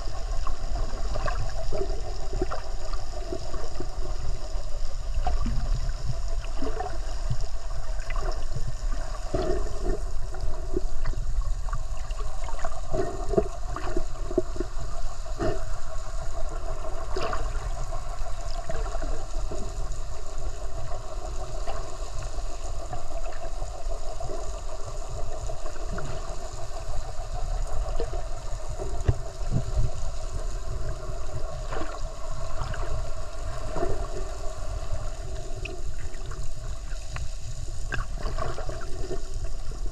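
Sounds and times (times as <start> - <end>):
bubbling and gurgling: 0.0 - 39.9
faint steady hum: 0.0 - 39.9
underwater rush of water: 0.0 - 39.9.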